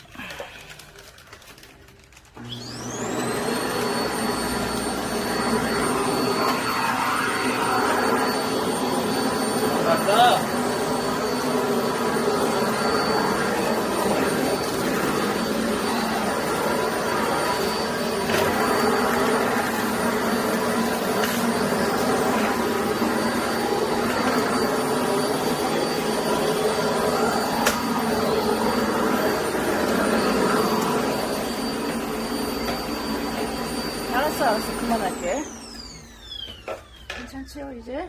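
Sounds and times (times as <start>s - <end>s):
vacuum cleaner running: 2.2s - 38.0s.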